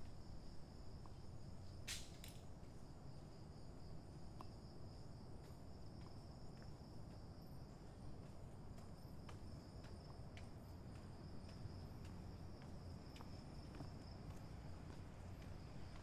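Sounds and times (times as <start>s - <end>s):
night insects droning: 0.0s - 16.0s.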